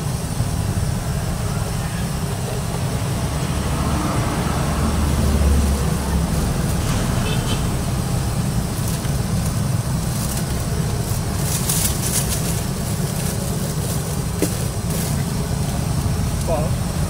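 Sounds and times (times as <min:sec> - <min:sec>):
gas burner roaring: 0:00.0 - 0:17.0
food hissing and crackling: 0:02.5 - 0:17.0.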